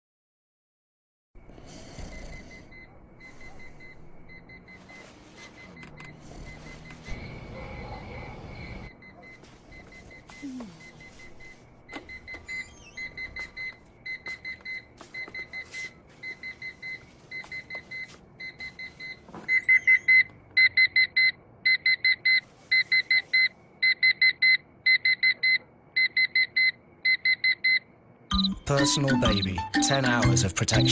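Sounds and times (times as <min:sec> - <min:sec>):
digital alarm clock beeping: 0:02.1 - 0:07.6, 0:08.6 - 0:30.9.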